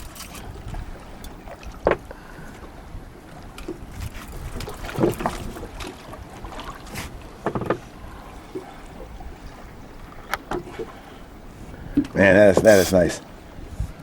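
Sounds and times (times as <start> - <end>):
boat low rumble: 0.0 - 14.0.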